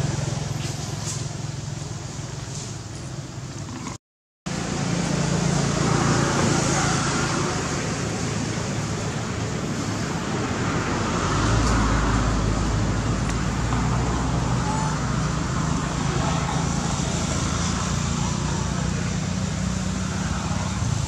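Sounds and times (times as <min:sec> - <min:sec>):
constant rushing noise: 0:00.0 - 0:21.0
engine humming: 0:00.0 - 0:21.0.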